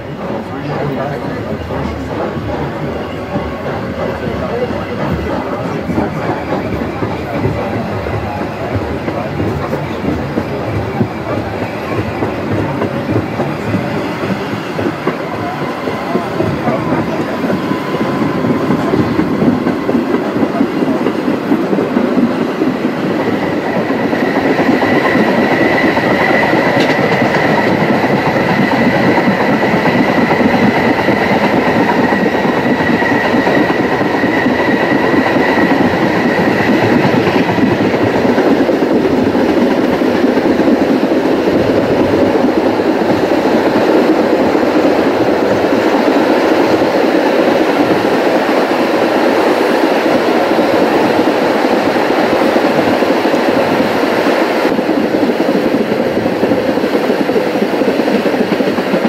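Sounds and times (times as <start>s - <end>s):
carriages rolling over rails: 0.0s - 53.8s
steam locomotive working: 0.0s - 59.0s.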